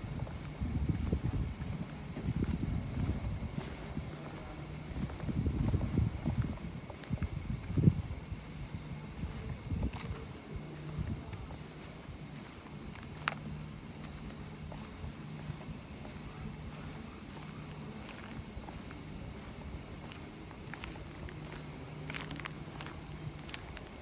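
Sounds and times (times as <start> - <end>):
footsteps on asphalt: 0.0 - 24.0
insects chirring: 0.0 - 24.0.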